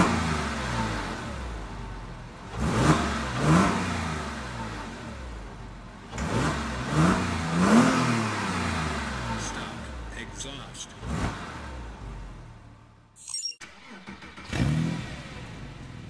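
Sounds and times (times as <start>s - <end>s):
car engine revving: 0.0s - 13.0s, 13.6s - 16.0s.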